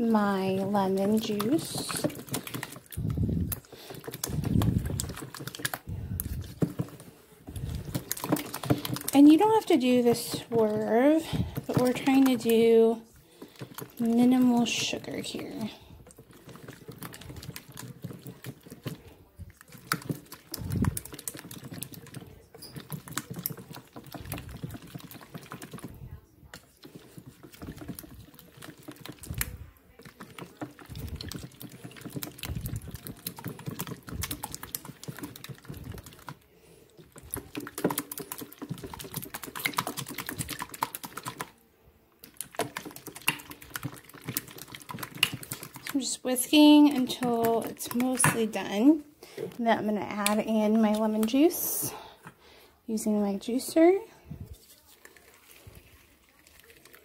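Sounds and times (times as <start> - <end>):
whisk wires clicking against metal bowl: 0.0 - 36.4, 37.0 - 41.6, 42.2 - 48.9, 49.9 - 51.7
wet sloshing of eggs: 0.0 - 57.0.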